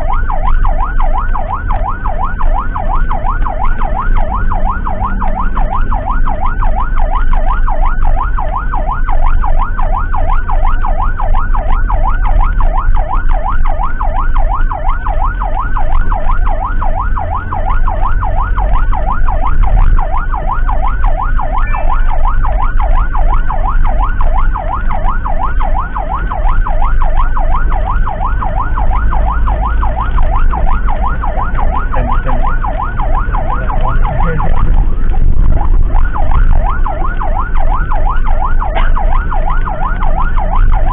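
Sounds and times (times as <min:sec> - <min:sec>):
emergency siren yelping: 0:00.0 - 0:40.9
vehicle rumble on road: 0:00.0 - 0:40.9.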